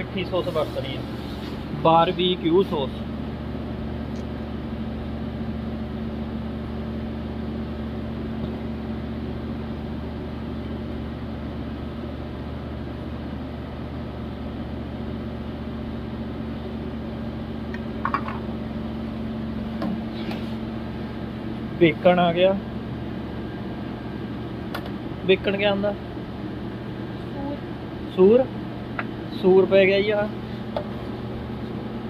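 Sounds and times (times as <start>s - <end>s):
kitchen equipment motor hum: 0.0s - 32.0s.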